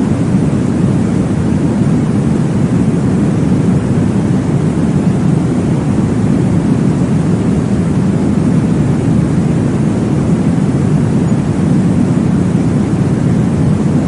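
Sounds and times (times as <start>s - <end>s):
deep whooshing white noise: 0.0s - 14.0s.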